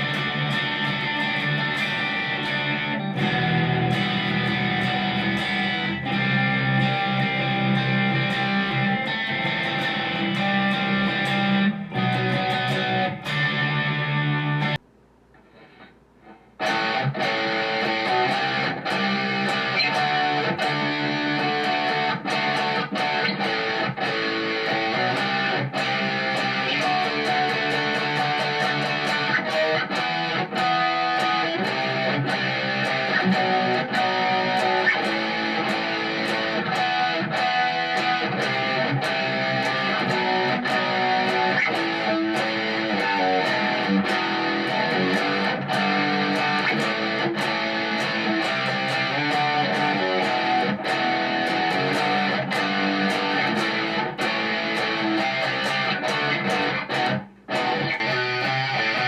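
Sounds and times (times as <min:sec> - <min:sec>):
electric guitar picked and strummed: 0:00.0 - 0:14.8, 0:15.4 - 0:59.0.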